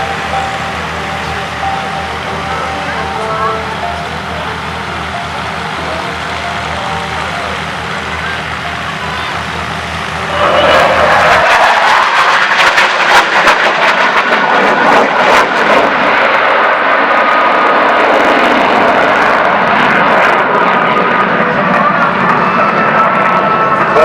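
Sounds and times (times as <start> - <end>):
jet fighter engines roaring: 0.0 - 24.0.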